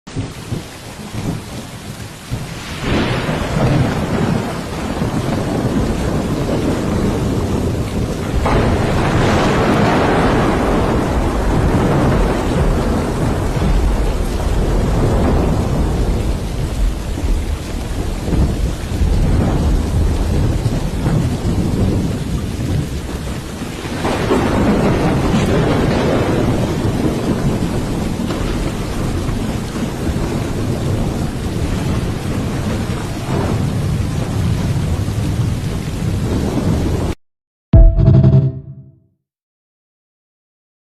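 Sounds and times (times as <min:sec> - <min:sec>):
steady rain: 0:00.1 - 0:37.2
thunder rolling: 0:00.1 - 0:37.2
thunder crack: 0:02.3 - 0:37.2.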